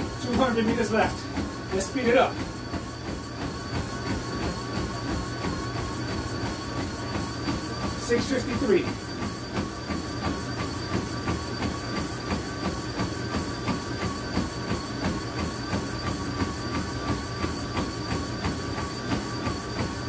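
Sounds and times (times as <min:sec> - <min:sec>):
footfalls pounding treadmill: 0:00.0 - 0:20.0
treadmill motor hum and whine: 0:00.0 - 0:20.0.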